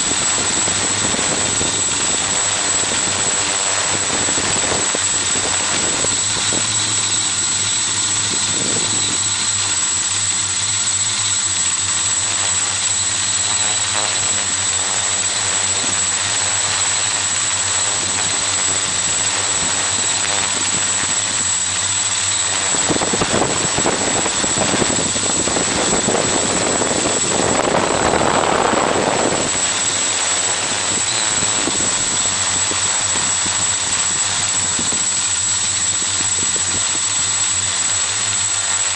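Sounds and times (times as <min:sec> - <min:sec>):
drone propellers whirring: 0:00.0 - 0:38.9
rush of noise: 0:00.0 - 0:38.9.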